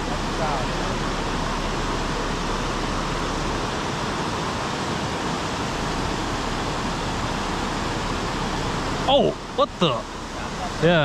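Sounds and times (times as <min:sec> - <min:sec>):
water spilling over waterfall: 0:00.0 - 0:11.0.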